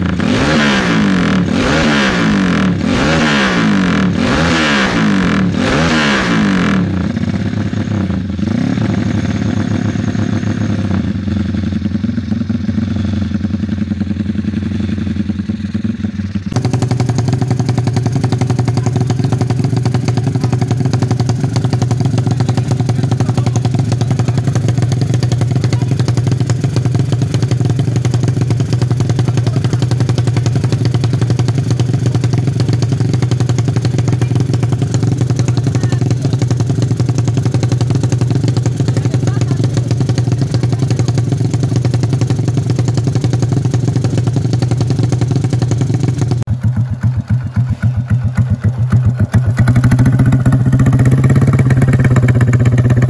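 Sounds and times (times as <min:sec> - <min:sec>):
loud race motorcycle engine: 0:00.0 - 0:53.0
motorcycle engine revving: 0:00.0 - 0:53.0.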